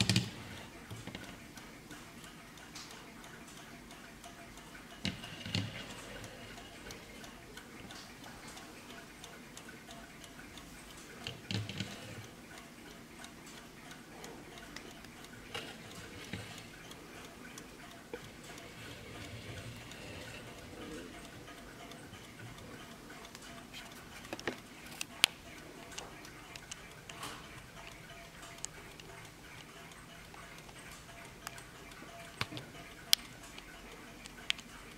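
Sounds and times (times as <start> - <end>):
clock ticking: 0.0 - 34.9
sharp clock clicks: 0.0 - 34.9.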